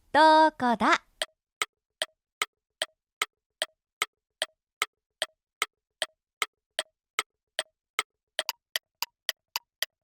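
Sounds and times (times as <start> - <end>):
clock ticking: 1.2 - 10.0.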